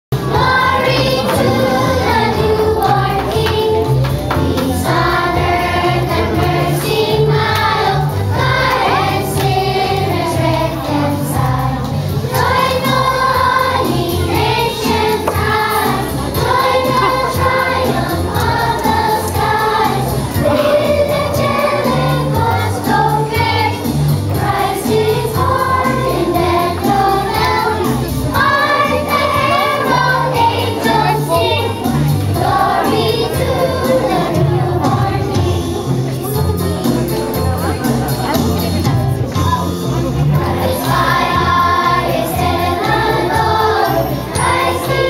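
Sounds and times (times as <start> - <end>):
children's choir singing: 0.2 - 38.8, 39.4 - 45.0.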